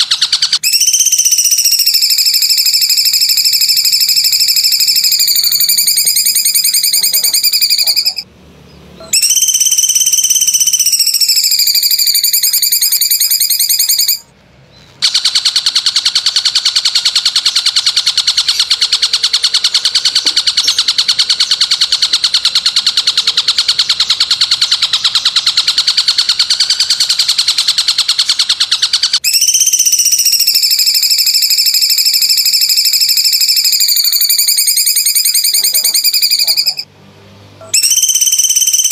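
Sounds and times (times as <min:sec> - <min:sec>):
rapid buzzing bird trill: 0:00.0 - 0:08.3, 0:09.0 - 0:14.3, 0:15.0 - 0:36.9, 0:37.6 - 0:38.9.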